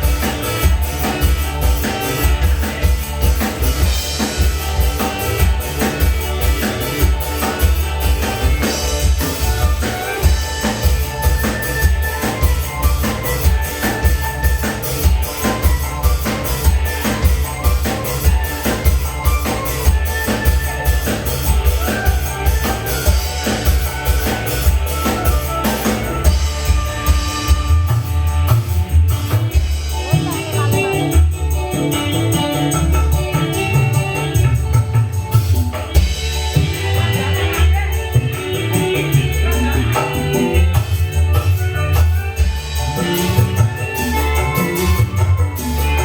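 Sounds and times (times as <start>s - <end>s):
drums and bass beat: 0.0s - 46.0s
melodic instrument lines: 0.0s - 46.0s.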